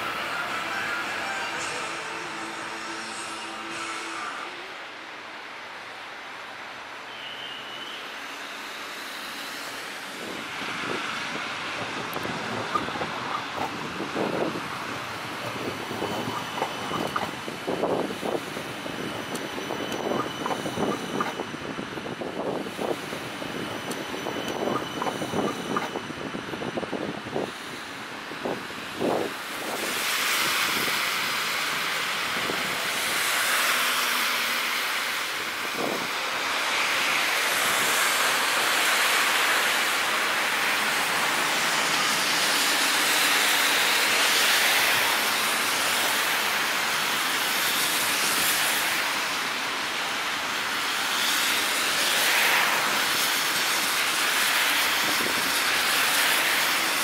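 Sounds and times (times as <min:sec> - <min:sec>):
tram wheels hissing: 0:00.0 - 0:57.0.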